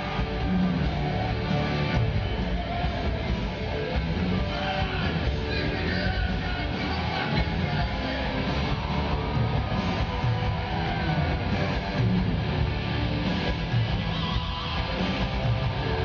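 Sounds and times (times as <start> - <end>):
electric guitar: 0.0 - 16.0
live heavy metal band: 0.0 - 16.0.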